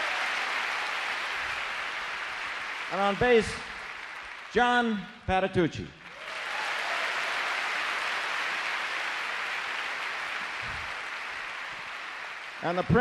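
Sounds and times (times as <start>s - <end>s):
audience applauding: 0.0s - 5.0s, 6.0s - 13.0s.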